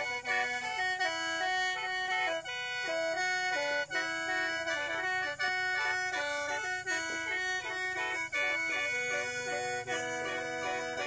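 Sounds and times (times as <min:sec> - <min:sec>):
mouth organ melody with drone: 0:00.0 - 0:11.0.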